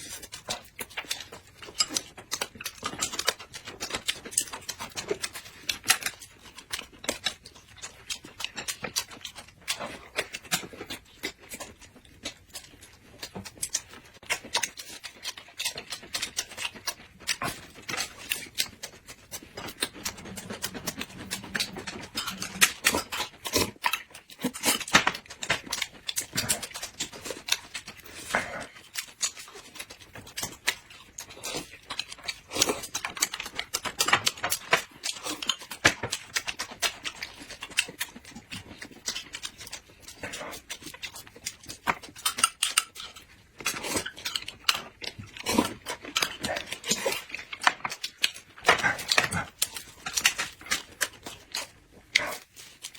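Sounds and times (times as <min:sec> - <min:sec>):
crackly clicks and smacks: 0:00.0 - 0:52.9
people chewing food: 0:00.0 - 0:52.9.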